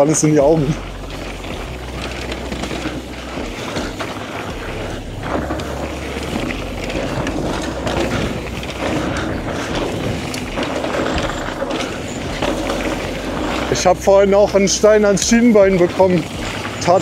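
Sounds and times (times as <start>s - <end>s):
bike tyres rolling over dirt: 0.0s - 17.0s
low rumble: 0.0s - 17.0s.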